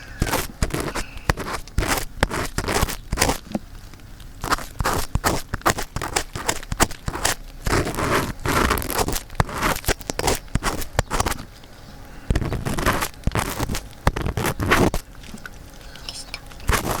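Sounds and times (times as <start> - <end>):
ear pick scraping microphone: 0.0 - 3.6, 4.4 - 11.5, 12.3 - 17.0.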